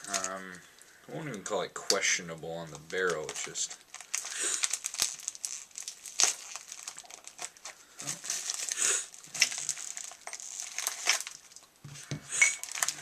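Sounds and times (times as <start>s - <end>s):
packaging wrap crinkling: 0.0s - 13.0s.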